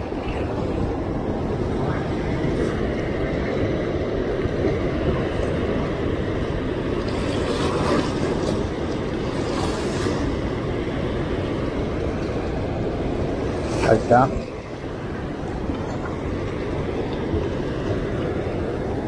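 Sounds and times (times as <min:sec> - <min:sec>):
turbulent water rushing: 0:00.0 - 0:19.0.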